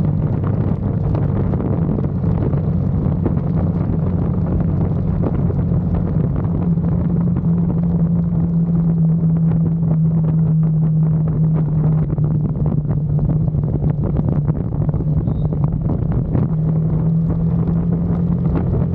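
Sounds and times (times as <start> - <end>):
motorcycle engine running: 0.0 - 18.9
wind on microphone: 0.0 - 18.9.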